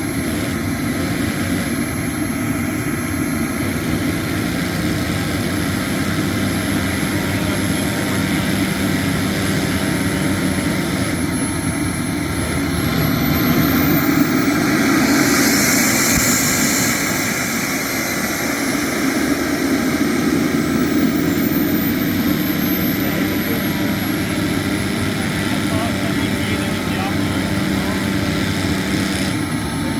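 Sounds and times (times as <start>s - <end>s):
jet turbine whining: 0.0s - 29.9s.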